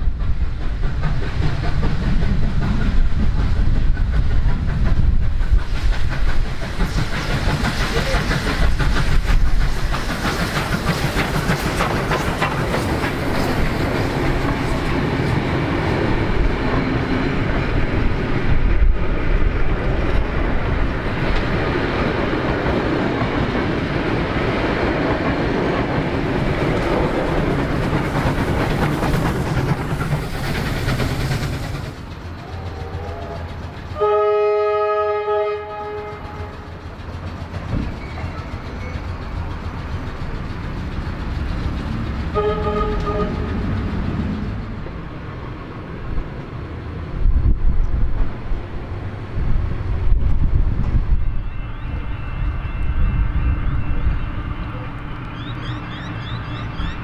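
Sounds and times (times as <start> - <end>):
wheels clacking over rail joints: 0.0 - 47.1
passenger train rumbling past: 0.0 - 57.0.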